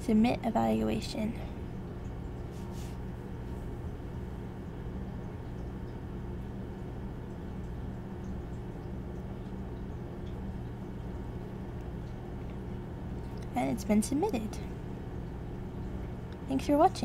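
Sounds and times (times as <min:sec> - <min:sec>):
steady low hum with hiss: 0:00.0 - 0:17.0.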